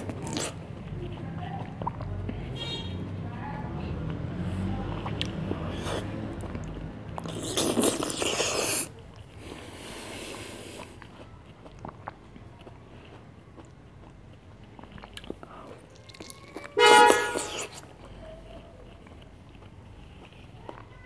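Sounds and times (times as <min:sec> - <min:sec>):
biting and chewing fruit: 0:00.0 - 0:21.0.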